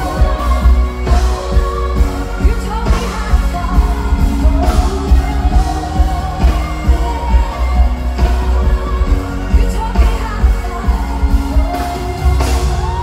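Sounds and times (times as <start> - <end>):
amplified backing music: 0.0 - 13.0
woman singing into microphone: 0.0 - 13.0.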